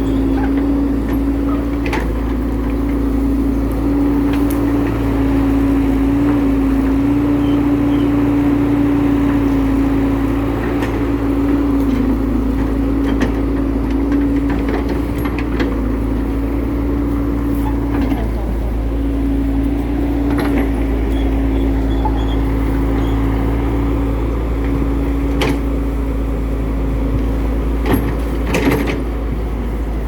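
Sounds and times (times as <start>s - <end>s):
excavator engine rumble: 0.0s - 30.0s.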